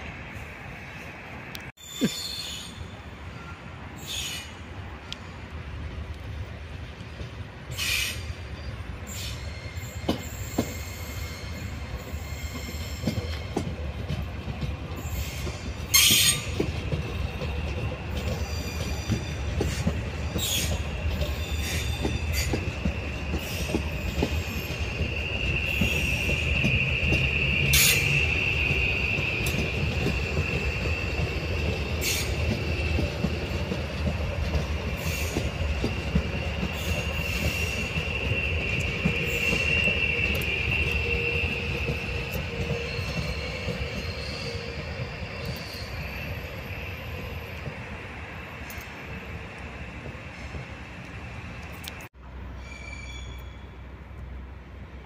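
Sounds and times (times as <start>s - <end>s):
low train rumble: 0.0s - 55.0s
train wheels squealing on rails: 1.8s - 6.4s, 7.0s - 54.4s.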